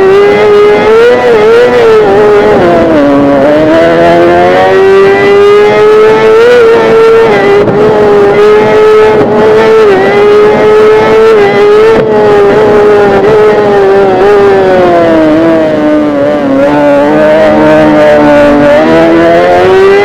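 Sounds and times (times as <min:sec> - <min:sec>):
motorcycle engine at high revs: 0:00.0 - 0:20.0.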